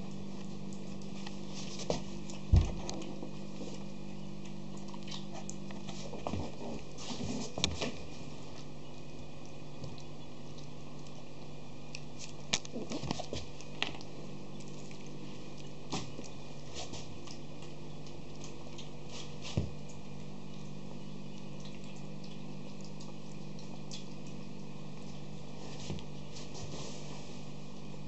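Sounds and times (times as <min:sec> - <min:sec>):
puppies lapping food: 0:00.0 - 0:26.3.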